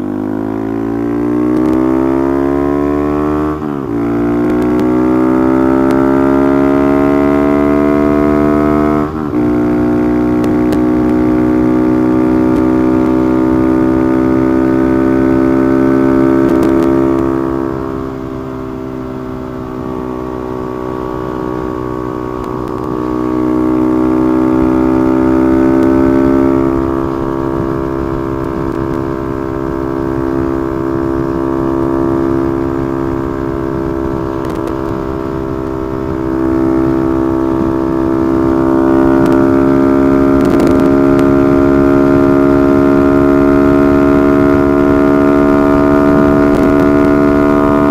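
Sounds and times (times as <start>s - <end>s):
small motorcycle engine droning: 0.0s - 47.9s
wind rushing over microphone: 0.8s - 47.9s.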